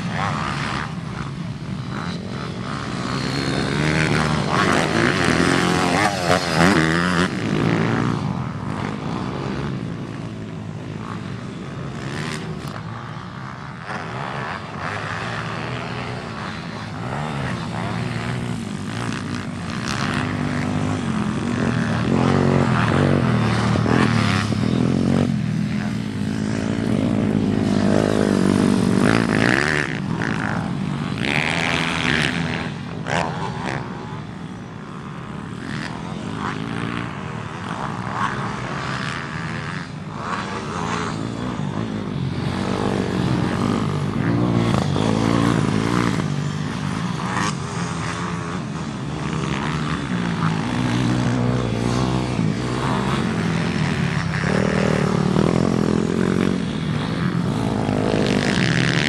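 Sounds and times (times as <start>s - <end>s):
pit bike engines revving: 0.0s - 59.0s.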